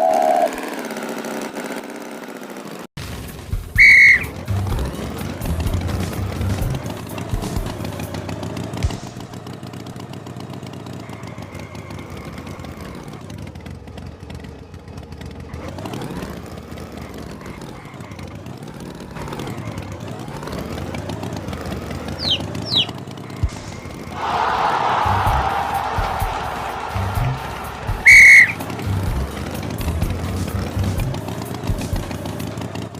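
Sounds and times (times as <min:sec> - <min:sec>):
cartoon tractor engine revving: 0:00.0 - 0:32.9.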